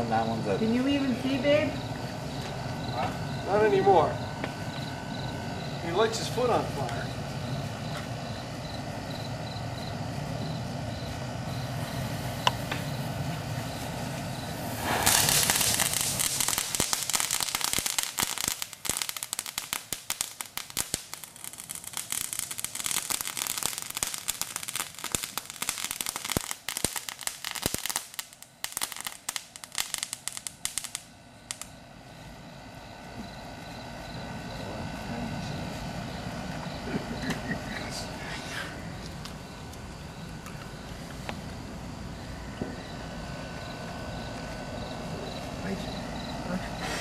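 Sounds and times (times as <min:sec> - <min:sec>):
firework crackling: 0:00.0 - 0:47.0.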